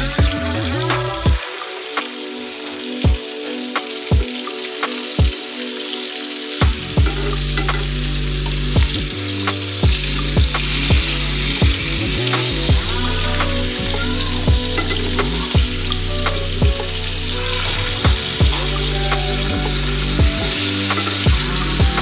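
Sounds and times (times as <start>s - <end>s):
fish frying in hot oil: 1.4s - 22.0s.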